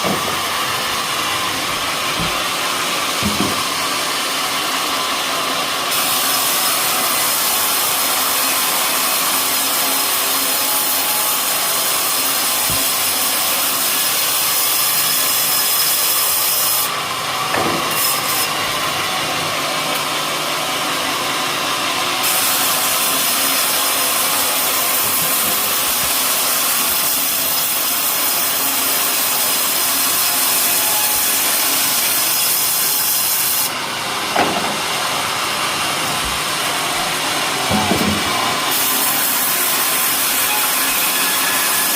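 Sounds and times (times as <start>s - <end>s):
saw blade cutting wood: 0.0s - 41.9s
sawmill machine running: 0.0s - 41.9s.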